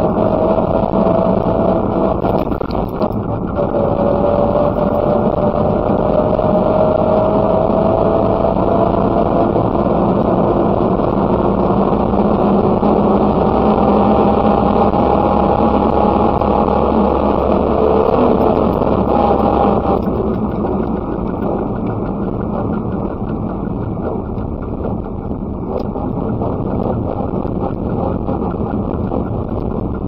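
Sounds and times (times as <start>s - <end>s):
two-stroke car engine running: 0.0s - 30.0s
tyre and wind noise: 0.0s - 30.0s.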